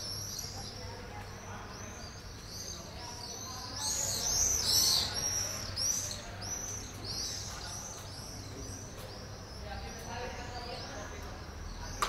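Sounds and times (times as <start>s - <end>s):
chorus of small birds chirping: 0.0s - 12.0s.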